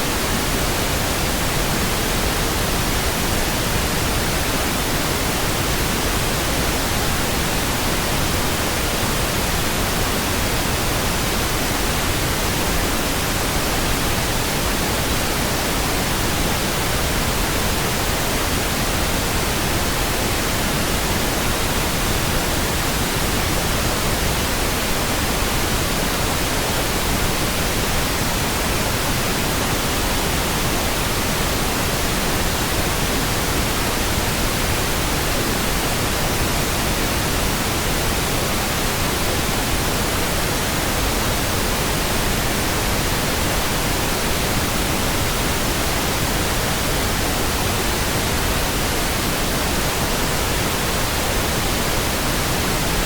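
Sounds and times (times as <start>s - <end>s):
pink noise hiss: 0.0s - 53.0s.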